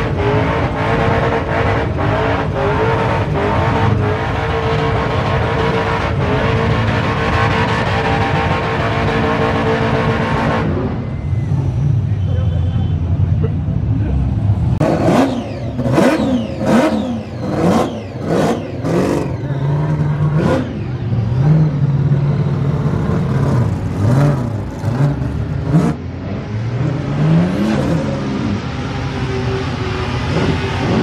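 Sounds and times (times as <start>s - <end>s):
car engine revving: 0.0s - 11.8s, 14.0s - 31.0s.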